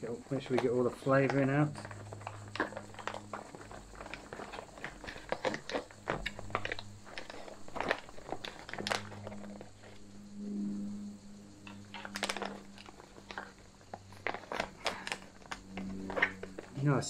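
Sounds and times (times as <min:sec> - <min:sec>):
pouch crinkling: 0:00.0 - 0:10.1, 0:11.6 - 0:16.8
spoon scraping in food pouch: 0:00.3 - 0:10.0, 0:11.6 - 0:16.8.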